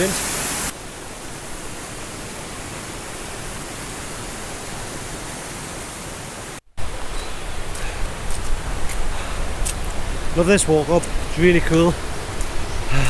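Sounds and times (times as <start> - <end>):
waterfalls rushing: 0.0 - 13.0.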